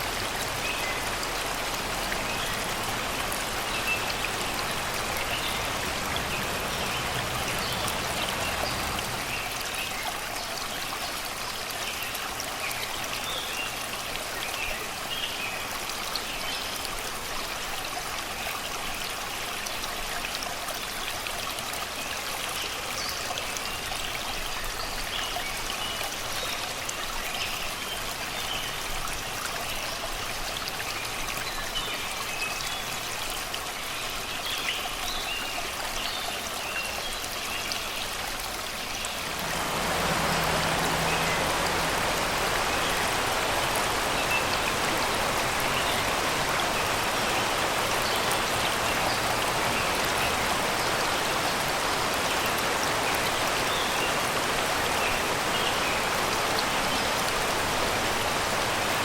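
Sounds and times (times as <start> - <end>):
river water babbling over rocks: 0.0 - 59.0.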